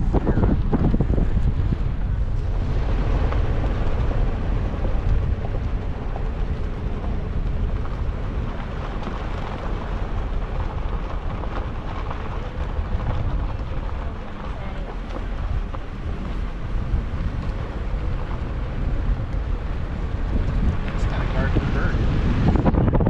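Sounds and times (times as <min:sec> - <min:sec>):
vehicle driving on dirt road: 0:00.0 - 0:23.0
wind buffeting microphone: 0:00.0 - 0:23.0.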